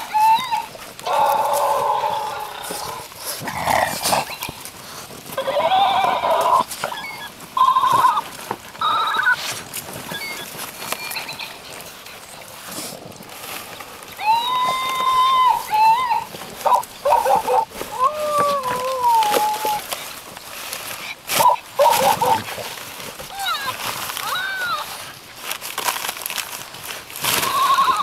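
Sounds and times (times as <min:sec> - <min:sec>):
dogs whining: 0:00.0 - 0:12.3, 0:14.0 - 0:25.2, 0:27.2 - 0:28.0
cardboard box rustling: 0:00.0 - 0:28.0.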